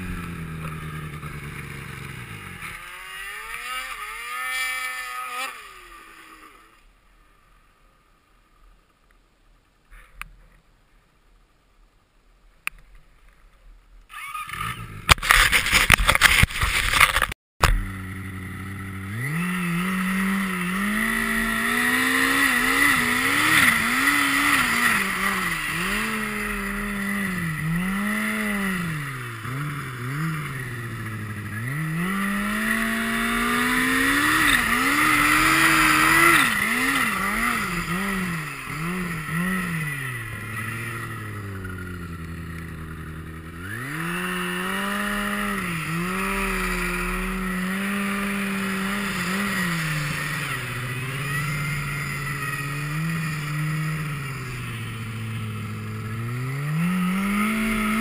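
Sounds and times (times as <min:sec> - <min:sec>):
snowmobile engine revving: 0:00.0 - 0:06.8, 0:14.1 - 0:58.0.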